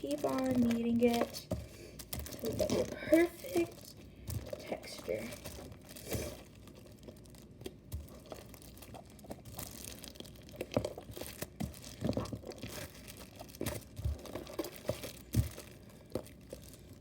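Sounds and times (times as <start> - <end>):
slime kneaded by hand: 0.0 - 17.0.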